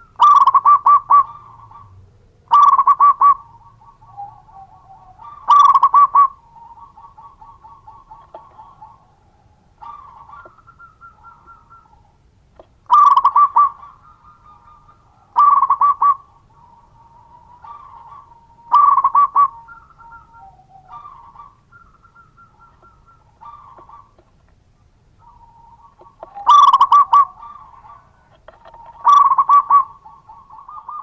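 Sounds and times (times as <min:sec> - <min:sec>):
dove cooing: 0:00.0 - 0:31.0
faint drawn-out bird calls: 0:00.0 - 0:31.0.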